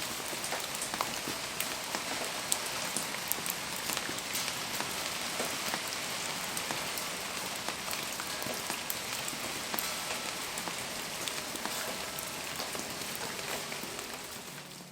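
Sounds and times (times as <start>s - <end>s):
raindrops ticking on a surface: 0.0s - 14.9s
steady rain falling: 0.0s - 14.9s.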